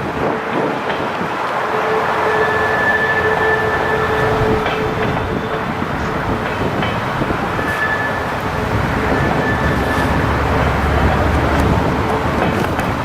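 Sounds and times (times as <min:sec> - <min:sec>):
high wheel squeals: 0:00.0 - 0:13.0
train wheels rumbling on rail: 0:00.0 - 0:13.0.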